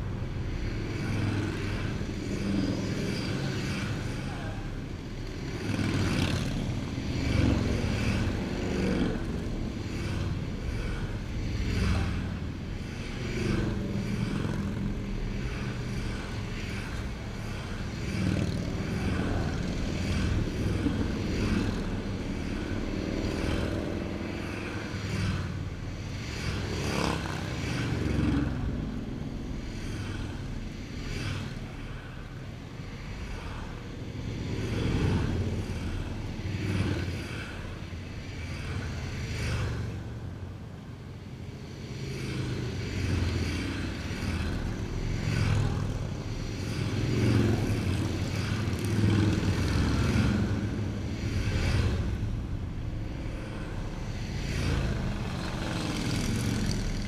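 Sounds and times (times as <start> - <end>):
car passing: 0.0 - 57.0
motorcycles riding past: 0.0 - 57.0.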